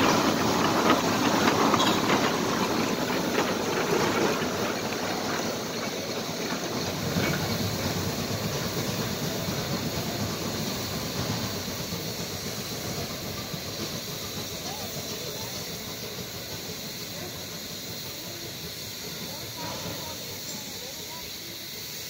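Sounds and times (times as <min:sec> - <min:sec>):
locomotive running-gear noise: 0:00.0 - 0:22.0
steam hiss: 0:00.0 - 0:22.0.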